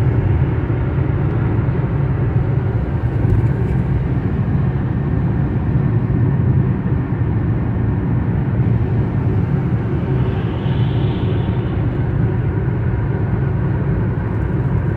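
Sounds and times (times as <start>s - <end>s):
car cabin road and engine rumble: 0.0s - 14.9s.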